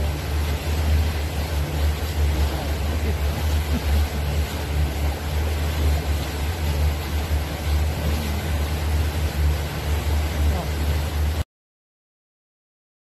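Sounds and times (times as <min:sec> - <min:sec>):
boat engine droning: 0:00.0 - 0:11.4
wind and water rushing: 0:00.0 - 0:11.4.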